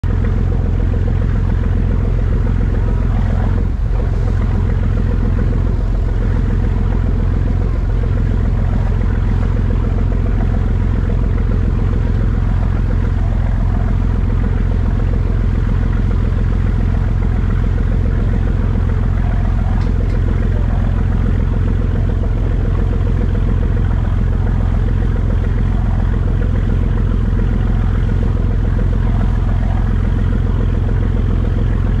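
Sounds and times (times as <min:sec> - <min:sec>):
motor boat engine running: 0:00.0 - 0:32.0
water rushing past hull: 0:00.0 - 0:32.0.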